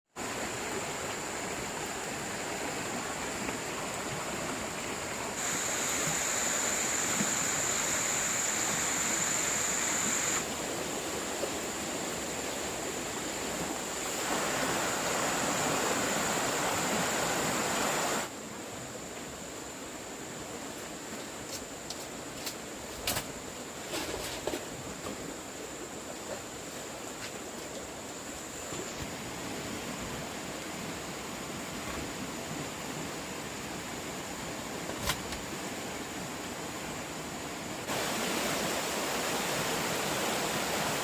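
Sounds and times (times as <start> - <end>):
rushing stream water: 0.1 - 41.0.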